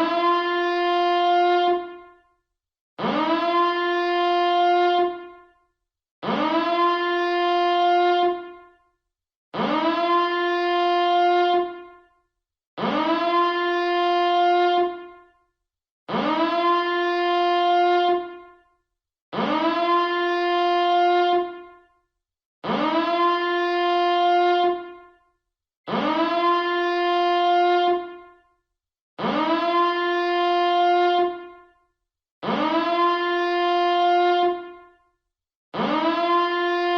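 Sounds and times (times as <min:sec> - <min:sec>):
alarm siren horn blasts: 0:00.0 - 0:02.4, 0:03.0 - 0:09.0, 0:09.6 - 0:15.5, 0:16.1 - 0:28.6, 0:29.2 - 0:36.9.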